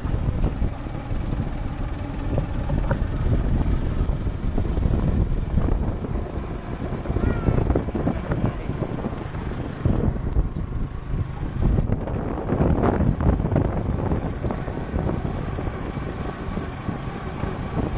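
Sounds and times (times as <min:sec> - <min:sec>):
small motorcycle engine running: 0:00.0 - 0:17.9
vehicle rattling: 0:00.0 - 0:17.9
wind buffeting microphone: 0:00.0 - 0:17.9.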